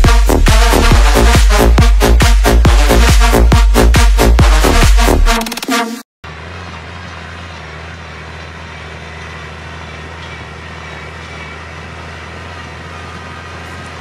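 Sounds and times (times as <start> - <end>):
tractor diesel engine drone: 0.0 - 5.3, 6.2 - 14.0.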